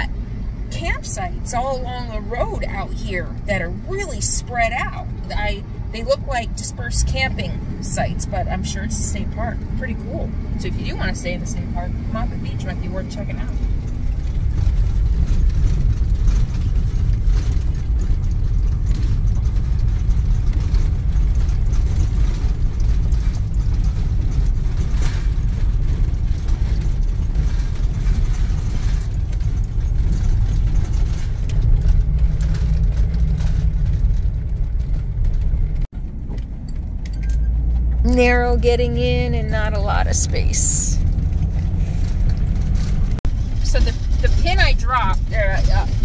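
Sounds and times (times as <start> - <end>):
engine and road rumble: 0.0 - 46.0.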